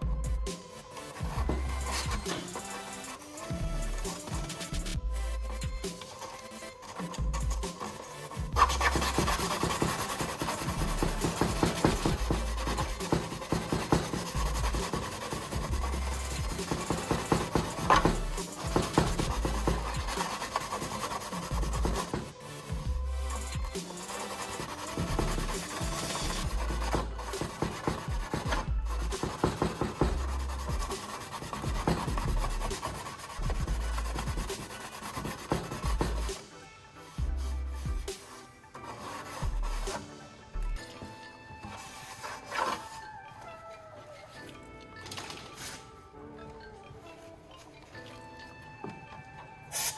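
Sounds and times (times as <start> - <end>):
sandpaper rubbing on plastic: 0.0 - 40.2, 41.0 - 43.2.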